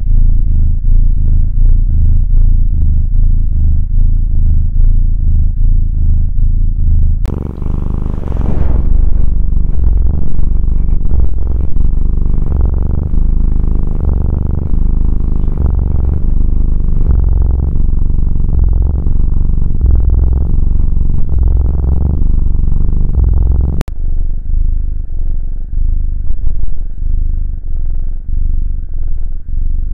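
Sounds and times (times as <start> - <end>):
kittens purring loudly: 0.0 - 29.9.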